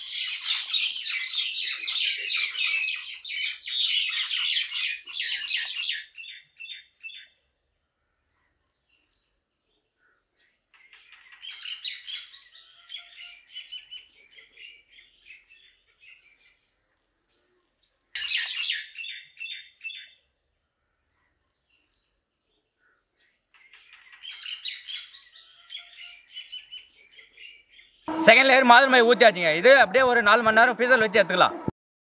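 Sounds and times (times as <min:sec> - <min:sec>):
small birds chirping: 0:00.0 - 0:28.1.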